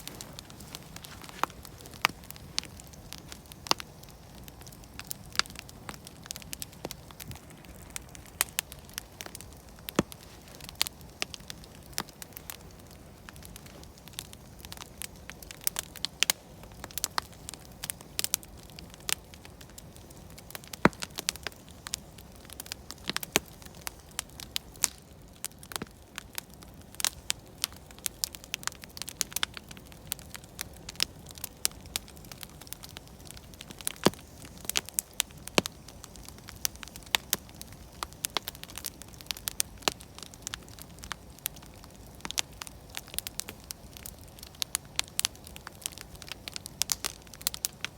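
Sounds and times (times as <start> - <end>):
campfire crackling and popping: 0.0 - 47.9
low steady fire hiss: 0.0 - 47.9.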